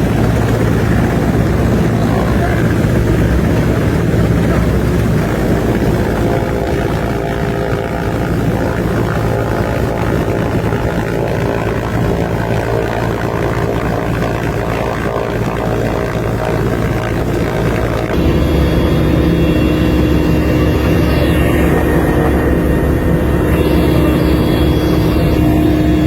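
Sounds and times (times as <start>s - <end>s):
loud engine drone: 0.0s - 26.0s.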